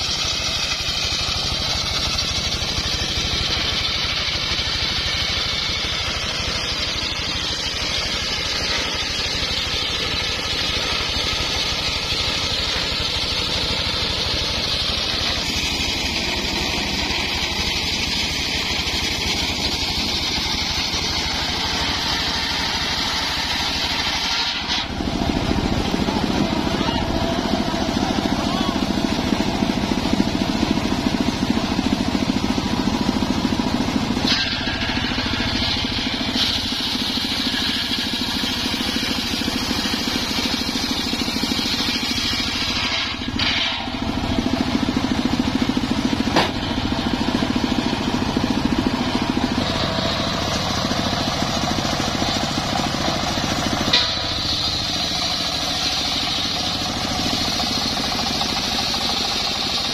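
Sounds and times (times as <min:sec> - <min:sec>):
engine droning: 0:00.0 - 0:59.9
saw blade whining through wood: 0:00.0 - 0:59.9.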